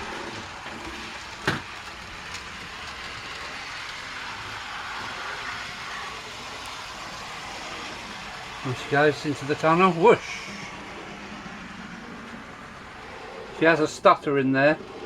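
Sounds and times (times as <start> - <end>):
model train motor whirring: 0.0 - 13.9.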